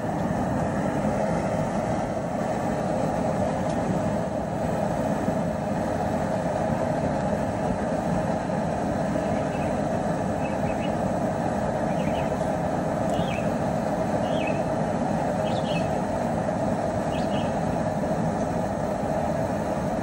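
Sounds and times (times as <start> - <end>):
propane burner roaring: 0.0 - 20.0.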